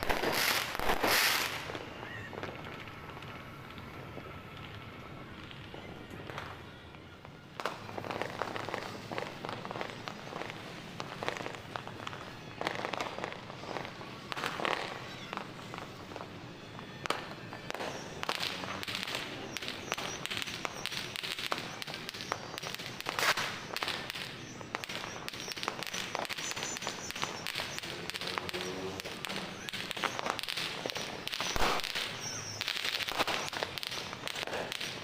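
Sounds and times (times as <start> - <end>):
fireworks and firecrackers: 0.0 - 35.0.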